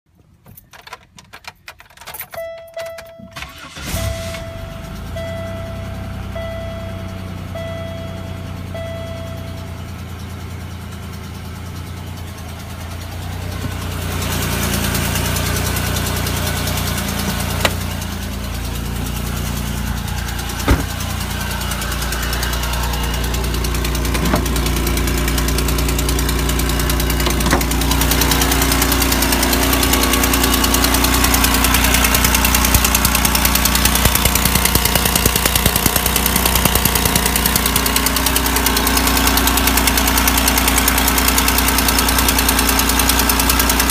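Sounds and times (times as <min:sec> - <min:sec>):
engine running with exhaust leak: 0:03.4 - 0:43.9.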